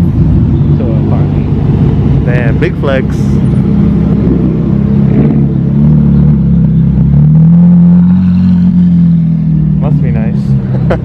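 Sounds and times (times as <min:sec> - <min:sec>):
sports car engine running low: 0:00.0 - 0:11.0.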